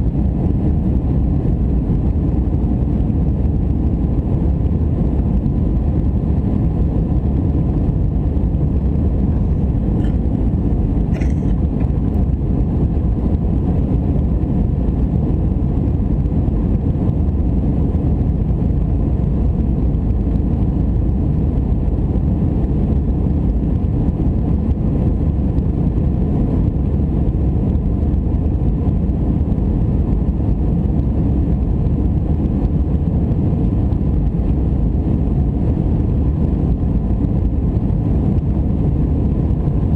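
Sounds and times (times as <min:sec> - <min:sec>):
jet roar inside aircraft cabin: 0:00.0 - 0:39.9.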